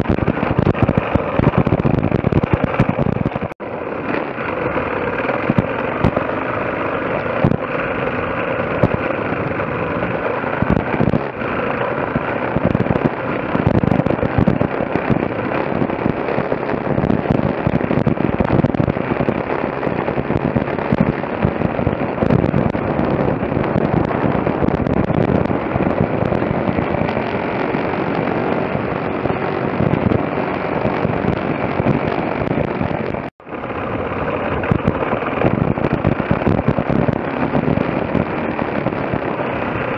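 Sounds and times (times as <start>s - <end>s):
dirt bike engines running: 0.0s - 39.9s
wind buffeting microphone: 0.0s - 39.9s.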